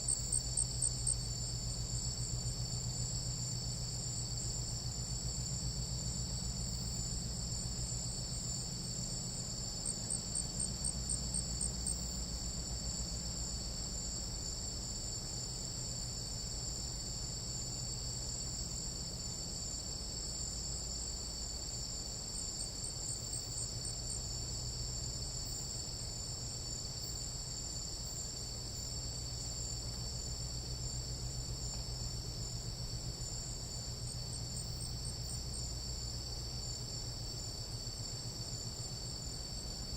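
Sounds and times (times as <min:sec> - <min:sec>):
fast pulsing insect call: 0:00.0 - 0:13.7, 0:20.3 - 0:39.9
insects trilling: 0:00.0 - 0:39.9
low steady hum: 0:00.0 - 0:39.9.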